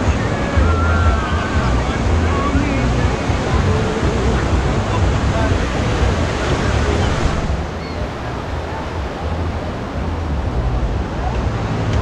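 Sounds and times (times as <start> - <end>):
ocean surf washing on beach: 0.0 - 12.0
wind buffeting the microphone: 0.0 - 12.0.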